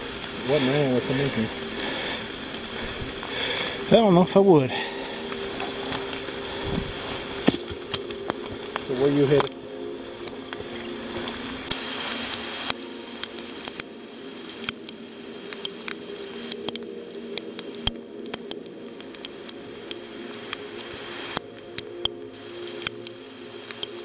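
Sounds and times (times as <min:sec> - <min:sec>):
heavy rain: 0:00.0 - 0:24.0
low steady hum: 0:00.0 - 0:24.0
raindrops ticking close by: 0:00.0 - 0:24.0.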